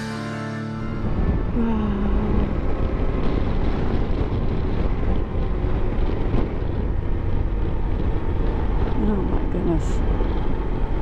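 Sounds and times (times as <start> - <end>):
wind rushing over microphone: 0.7 - 11.0
motorcycle engine running: 0.8 - 11.0.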